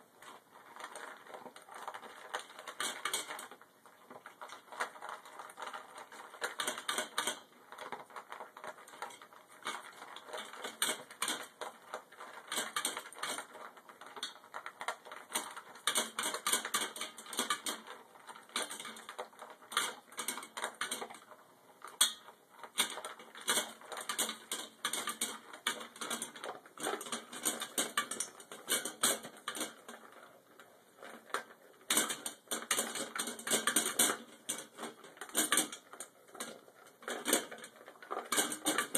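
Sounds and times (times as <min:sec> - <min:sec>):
food clattering in metal bowl: 0:04.2 - 0:21.2, 0:21.8 - 0:30.2, 0:31.0 - 0:38.9.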